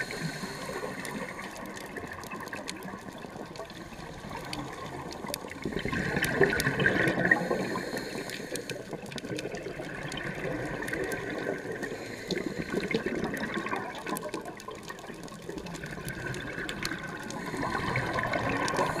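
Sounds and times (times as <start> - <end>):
crackle of sharp clicks: 0.0 - 19.0
regulator bubbles rushing underwater: 0.0 - 19.0.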